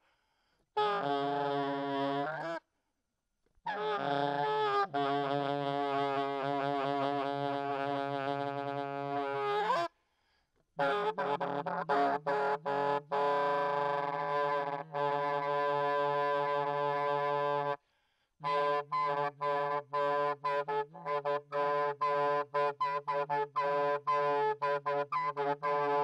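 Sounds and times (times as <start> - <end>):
alto saxophone playing: 0.8 - 2.6, 3.8 - 9.9, 10.8 - 17.8, 18.4 - 26.0.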